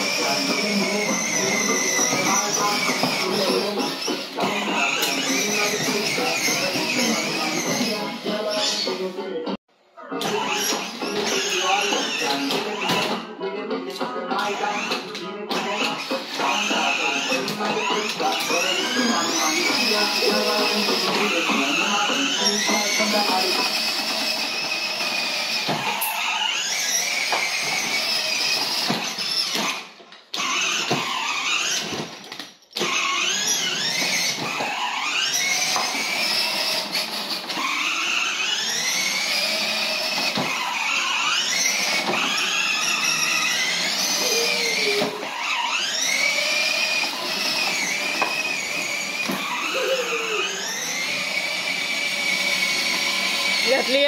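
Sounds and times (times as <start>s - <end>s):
toy motorcycle motor whine: 0.0s - 9.2s, 10.2s - 13.2s, 14.4s - 54.0s.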